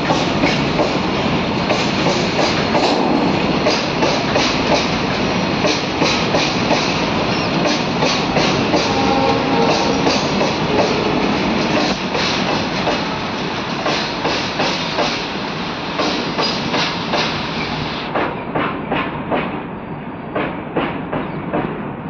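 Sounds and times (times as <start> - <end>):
train wheels clacking on rail joints: 0.0 - 19.7, 20.3 - 22.0
rumble of train running gear: 0.0 - 22.0.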